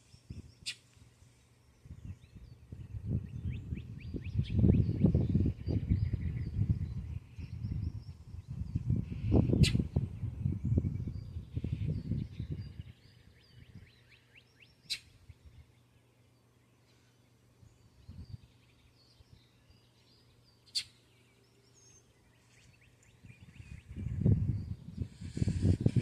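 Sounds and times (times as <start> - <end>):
faint birdsong: 0.0 - 26.0.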